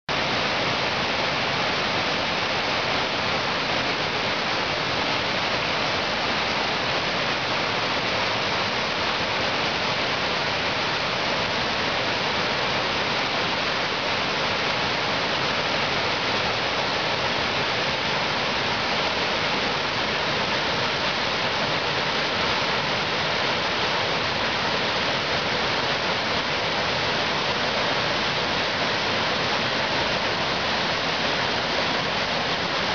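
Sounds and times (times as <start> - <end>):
waterfall rushing over rocks: 0.1 - 32.9.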